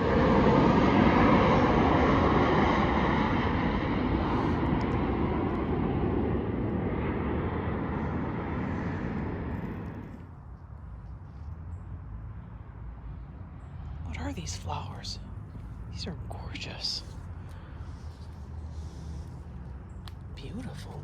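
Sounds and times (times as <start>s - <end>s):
airplane passing low overhead: 0.0s - 21.0s.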